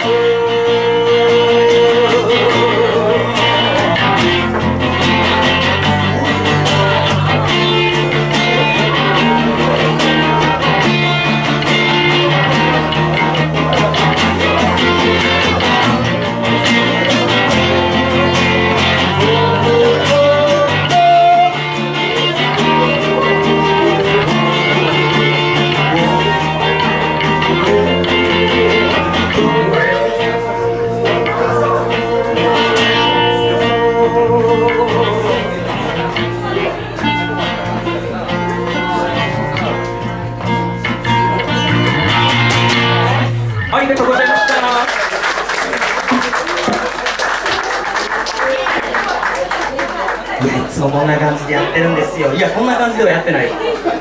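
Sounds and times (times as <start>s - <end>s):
held bass notes: 0.0s - 44.4s
guitar melody: 0.0s - 54.0s
live band playing: 0.0s - 54.0s.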